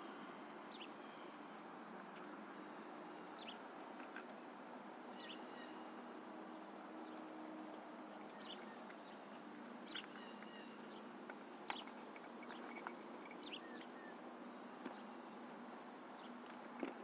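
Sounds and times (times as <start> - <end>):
birds chirping faintly: 0.0 - 16.9
steady low hum and hiss: 0.0 - 17.0.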